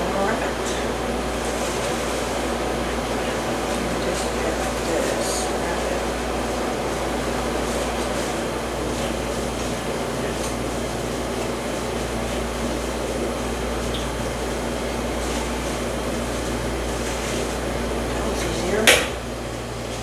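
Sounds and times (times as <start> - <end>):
fan rushing: 0.0 - 20.0.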